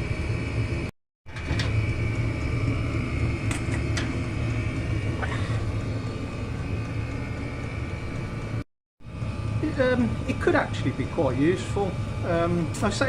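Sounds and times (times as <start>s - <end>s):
diesel air heater rumble: 0.0s - 13.0s
high-pitched whine: 0.0s - 13.0s.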